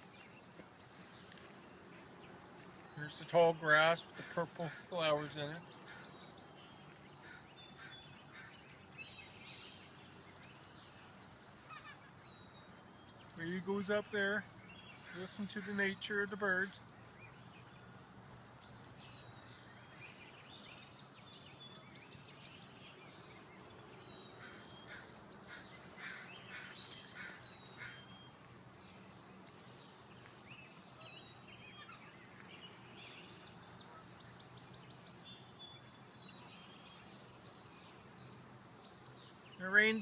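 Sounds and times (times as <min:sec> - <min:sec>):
wild birds singing and chirping: 0:00.0 - 0:40.0.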